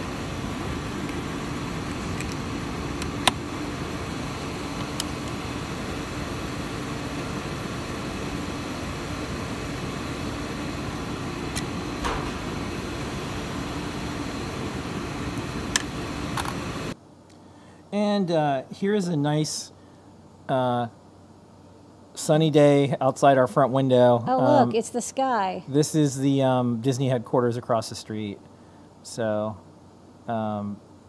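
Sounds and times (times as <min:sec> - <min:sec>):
fan-like hum: 0:00.0 - 0:31.0.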